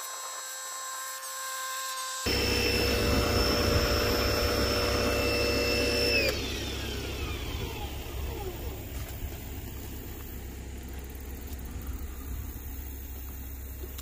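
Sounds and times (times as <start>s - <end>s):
pressure washer motor whining: 2.3s - 14.0s.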